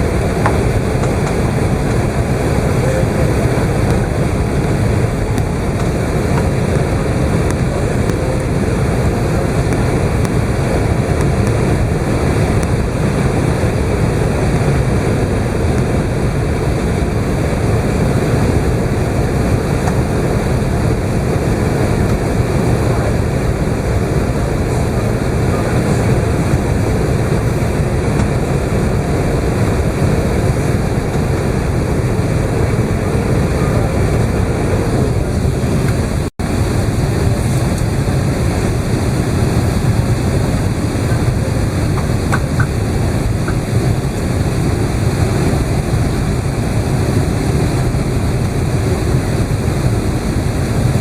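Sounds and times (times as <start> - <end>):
airplane cabin noise: 0.0 - 51.0.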